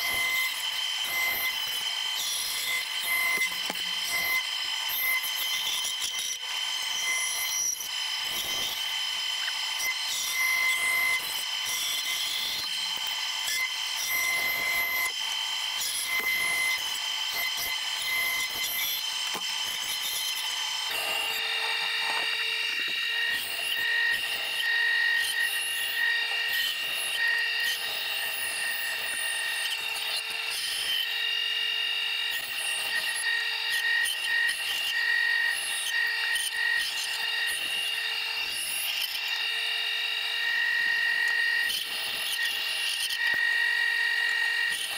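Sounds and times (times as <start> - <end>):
bandsaw motor hum: 0.0 - 44.9
saw blade rasping through board: 0.0 - 44.9.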